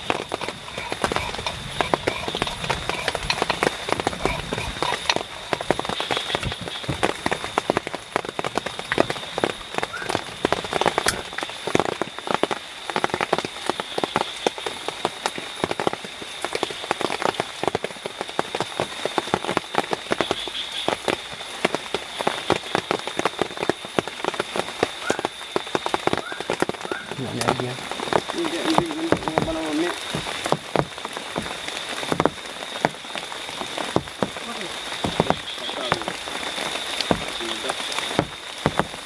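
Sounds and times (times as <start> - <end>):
rain dripping on shelter: 0.0 - 39.0.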